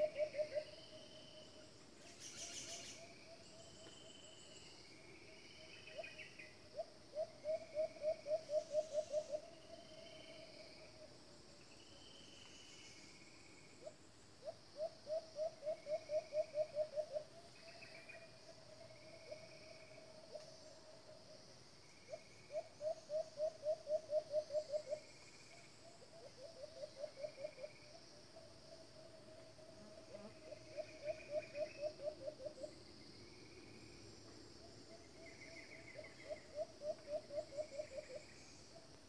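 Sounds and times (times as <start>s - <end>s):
insect hiss: 0.0s - 39.0s.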